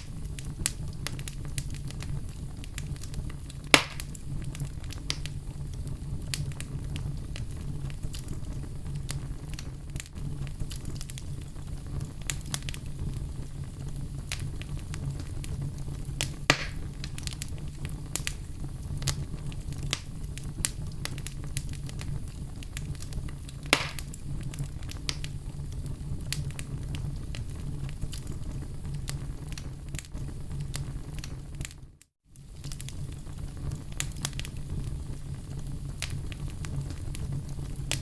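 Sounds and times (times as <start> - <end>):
loud fire pops: 0.0 - 38.0
wood fire crackling: 0.0 - 38.0.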